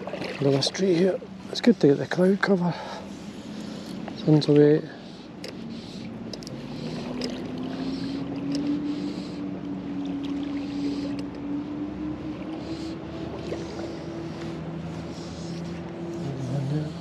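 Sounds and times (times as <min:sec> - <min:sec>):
distant engine droning: 0:00.0 - 0:17.0
river flowing: 0:00.0 - 0:17.0.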